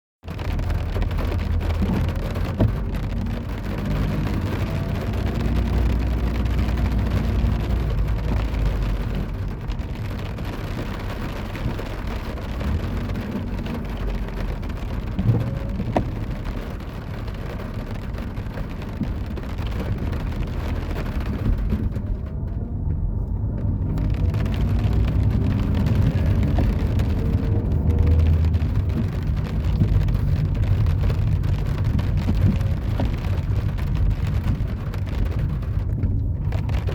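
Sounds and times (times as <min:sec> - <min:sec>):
rain falling: 0:00.2 - 0:36.9
car engines passing: 0:00.3 - 0:36.9.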